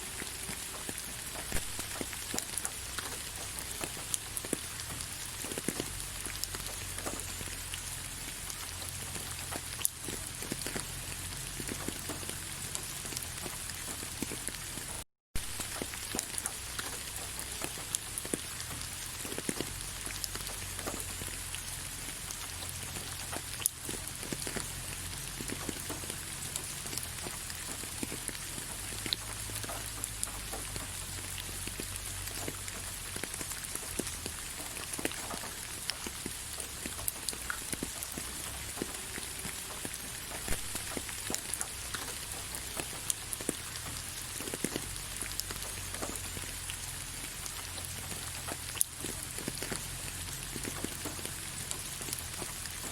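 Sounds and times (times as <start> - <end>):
rain falling on leaves: 0.0 - 52.9.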